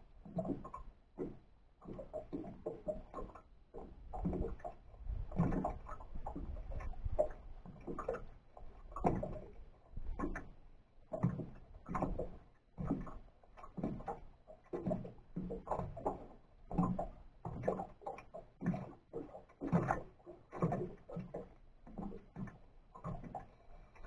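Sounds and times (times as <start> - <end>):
waves lapping against boat hull: 0.0 - 24.0.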